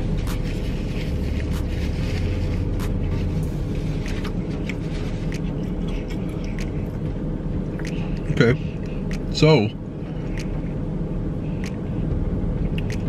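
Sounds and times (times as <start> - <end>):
chewing and mouth sounds: 0.0 - 9.4, 10.0 - 13.0
car idling: 0.0 - 13.0.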